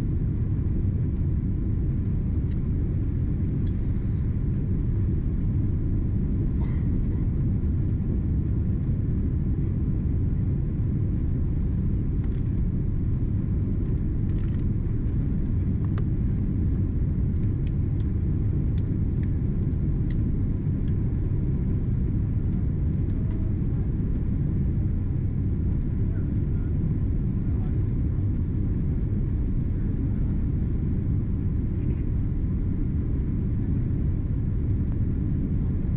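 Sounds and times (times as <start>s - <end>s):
airliner cabin rumble: 0.0s - 35.9s.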